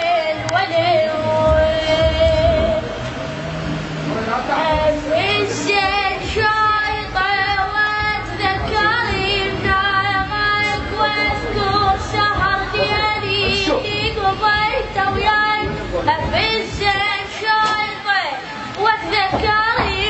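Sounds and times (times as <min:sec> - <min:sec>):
low accompaniment: 0:00.0 - 0:20.0.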